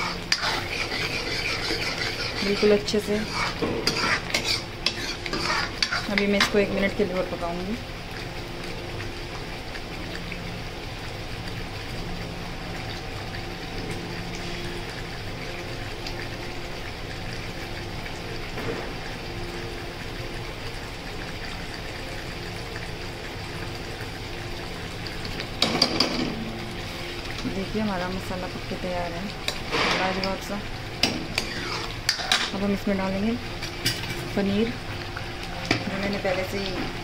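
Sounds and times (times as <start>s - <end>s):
thick sauce bubbling and sputtering: 0.0s - 37.0s.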